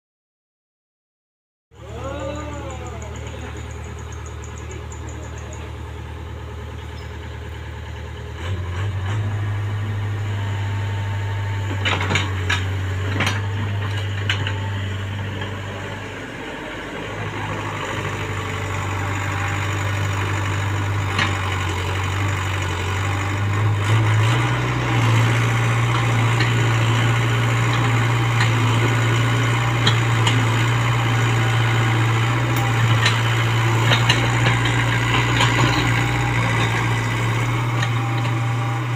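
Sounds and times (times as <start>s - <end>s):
excavator diesel engine running: 1.8s - 38.9s.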